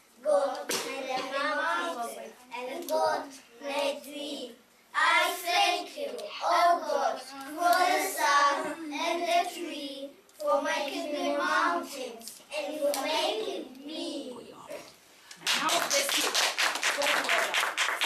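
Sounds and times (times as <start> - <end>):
children reciting in unison: 0.2 - 14.7.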